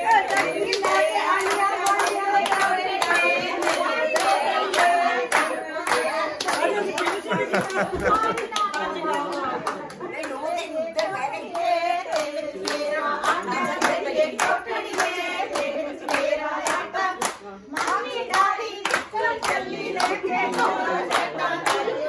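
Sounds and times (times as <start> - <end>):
rhythmic hand-clapping: 0.0 - 22.0
women singing together: 0.0 - 22.0.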